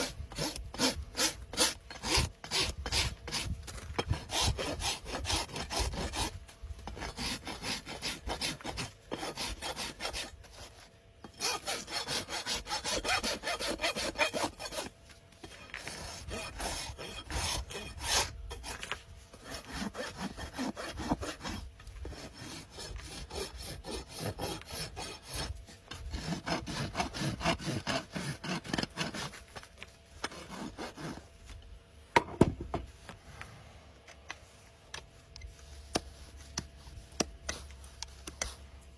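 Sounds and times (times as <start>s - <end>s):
rasp filing hoof: 0.0s - 31.3s.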